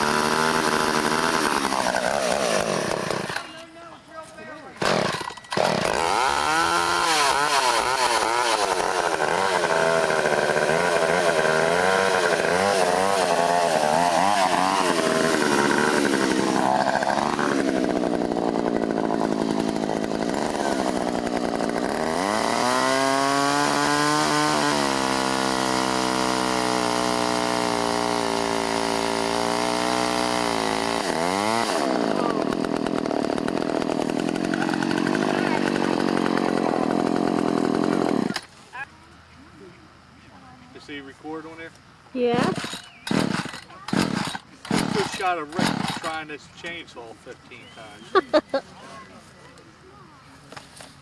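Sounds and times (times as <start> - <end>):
chainsaw cutting tree trunk: 0.0 - 3.6, 4.7 - 38.5, 42.2 - 46.8.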